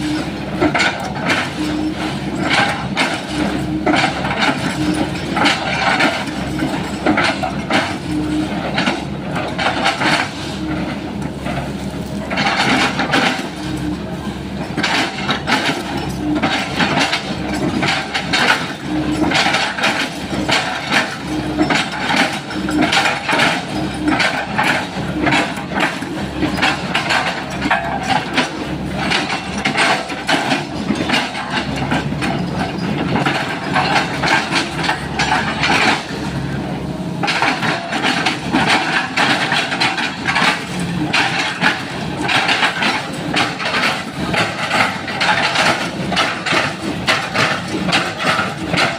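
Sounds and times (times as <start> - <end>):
excavator diesel engine under load: 0.0 - 48.9.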